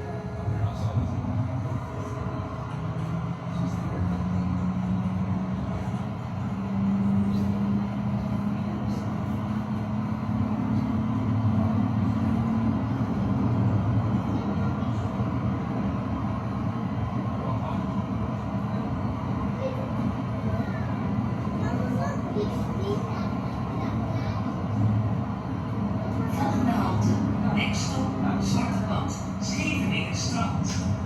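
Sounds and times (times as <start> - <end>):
tram rumbling on rails: 0.0 - 31.0.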